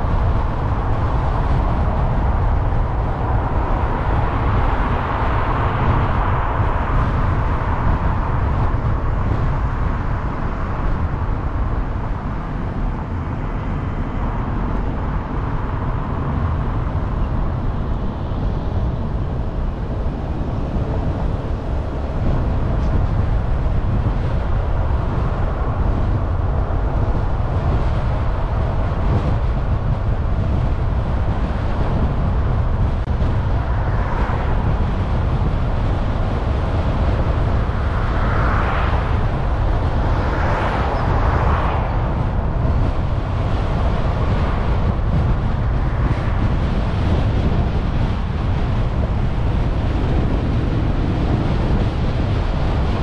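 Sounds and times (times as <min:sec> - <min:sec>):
car driving on road rumble: 0:00.0 - 0:53.0.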